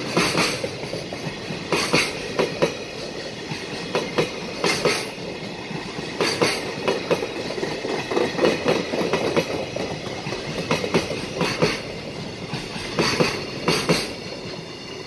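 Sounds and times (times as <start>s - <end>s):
train rolling rumble: 0.0s - 15.0s
train wheels clattering over rail joints: 0.0s - 15.0s.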